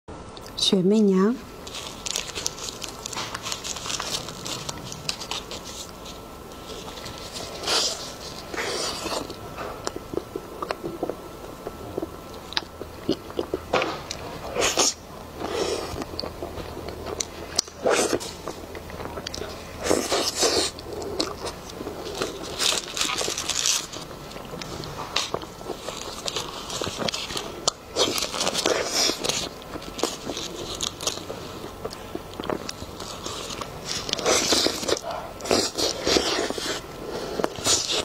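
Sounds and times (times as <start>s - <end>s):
biting and chewing: 1.6s - 38.0s.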